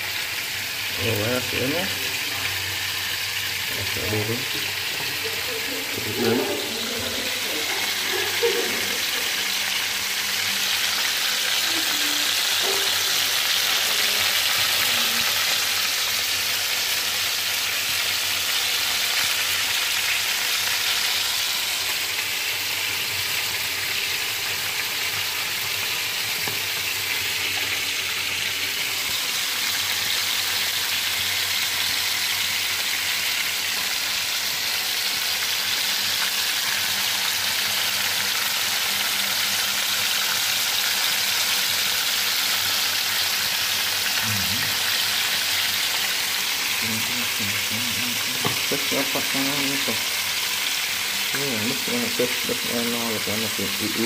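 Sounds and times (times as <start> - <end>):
fish sizzling in a pan: 0.0 - 54.0.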